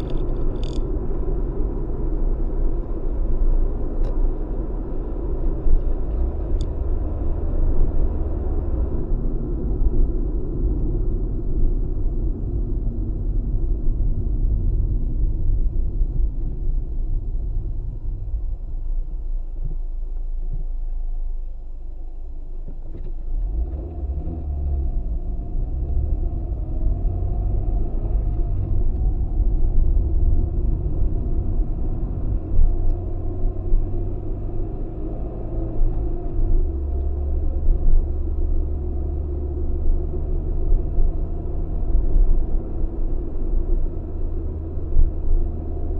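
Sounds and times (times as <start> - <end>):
car cabin road and engine rumble: 0.0 - 45.9.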